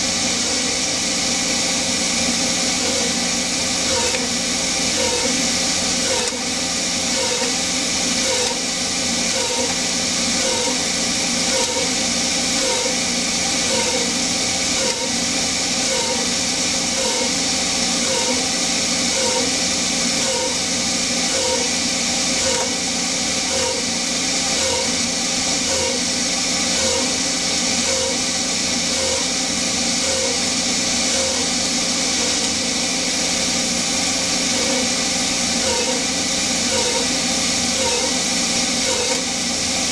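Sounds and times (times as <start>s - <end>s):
lathe spindle running: 0.0s - 39.9s.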